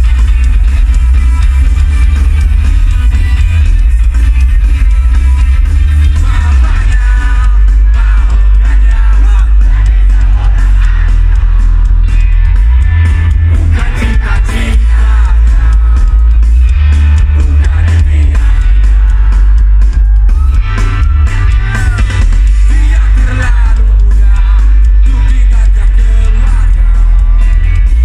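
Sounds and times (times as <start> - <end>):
boomy bass: 0.0 - 28.0
rock band playing: 0.0 - 28.0
person singing: 0.8 - 28.0.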